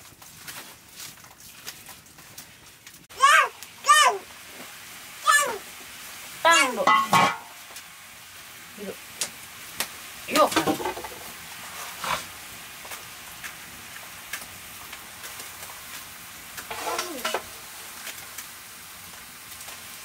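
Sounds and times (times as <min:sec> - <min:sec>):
leaves sizzling in a wok: 0:00.0 - 0:20.0.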